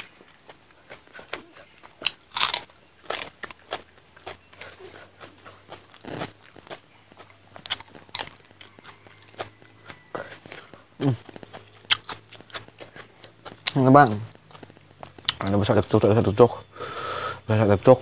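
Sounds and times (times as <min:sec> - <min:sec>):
crunchy bites: 0:00.0 - 0:16.0
person chewing food: 0:00.0 - 0:16.0.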